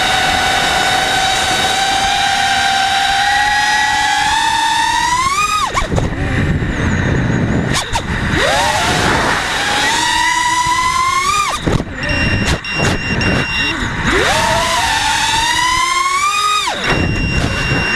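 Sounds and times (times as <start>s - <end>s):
drone motors whining: 0.0s - 17.9s
rough rushing noise: 0.0s - 17.9s.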